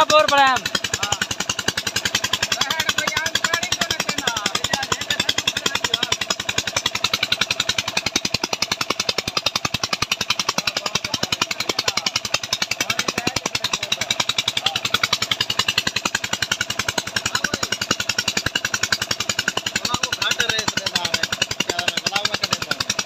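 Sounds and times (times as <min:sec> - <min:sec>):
pump engine beating rapidly: 0:00.0 - 0:23.0.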